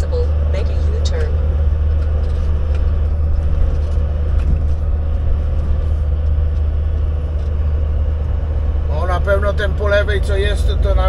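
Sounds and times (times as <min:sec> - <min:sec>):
diesel truck engine drone: 0:00.0 - 0:11.0.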